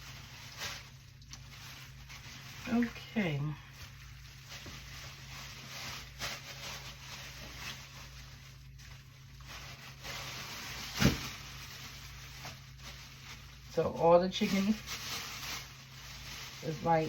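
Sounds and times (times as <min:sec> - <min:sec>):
chicken rustling in plastic bag: 0:00.0 - 0:17.0.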